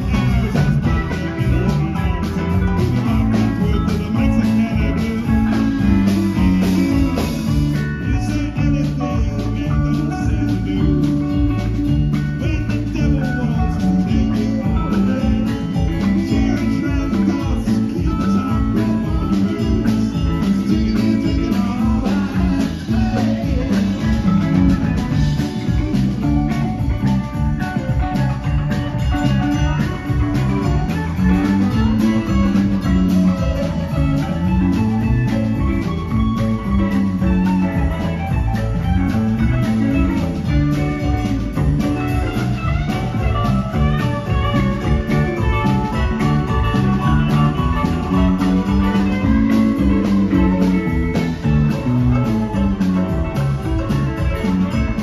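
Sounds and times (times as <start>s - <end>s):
live rock band playing: 0.0s - 55.0s
moving bass line: 0.0s - 55.0s.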